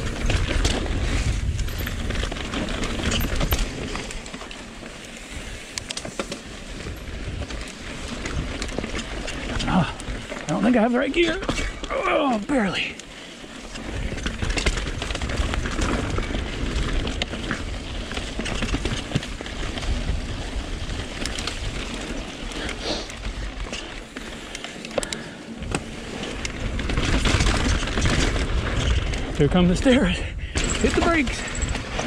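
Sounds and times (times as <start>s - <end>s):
wind rumbling on microphone: 0.0s - 10.5s, 13.6s - 24.5s, 25.6s - 32.0s
bike rattles and clicks: 0.0s - 32.0s
bike tyres on dirt: 0.0s - 32.0s.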